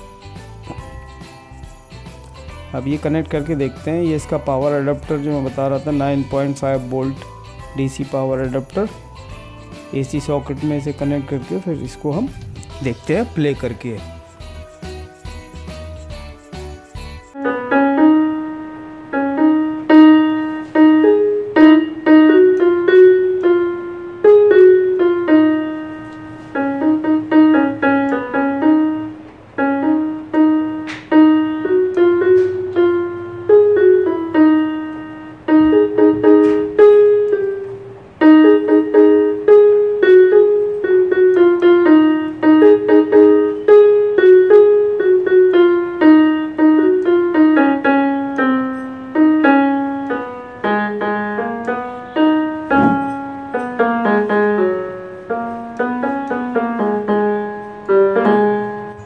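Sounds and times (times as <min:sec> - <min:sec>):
keyboard playing piano melody: 0:00.0 - 0:59.0.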